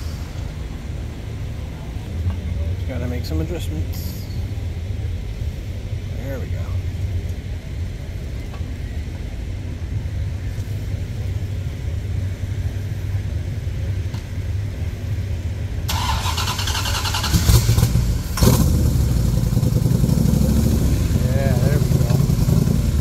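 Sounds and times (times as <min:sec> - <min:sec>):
harsh loud engine: 0:00.0 - 0:08.4, 0:09.4 - 0:23.0
car engines rumbling: 0:00.0 - 0:23.0.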